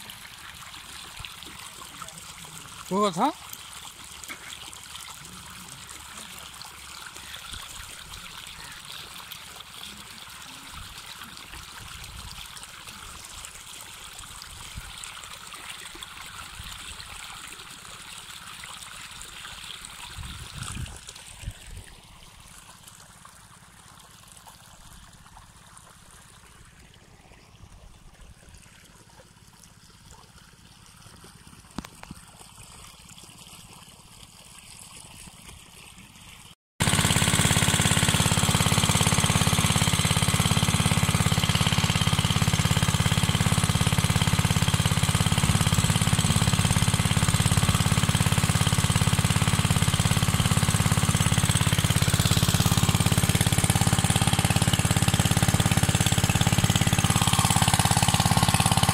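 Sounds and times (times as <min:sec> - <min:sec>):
water rushing from hose: 0:00.0 - 0:58.9.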